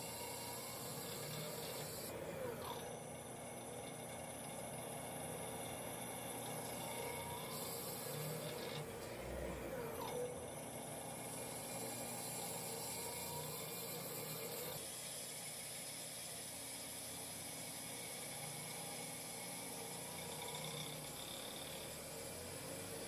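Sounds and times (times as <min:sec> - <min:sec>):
faint machine whine: 0:00.0 - 0:23.0.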